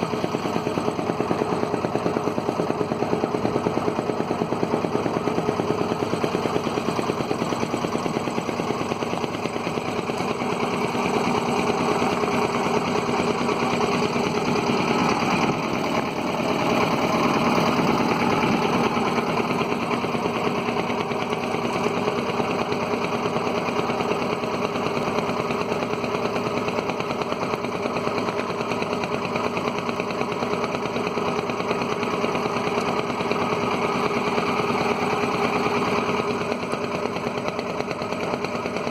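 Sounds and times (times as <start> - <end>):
boat engine knocking: 0.0 - 38.9.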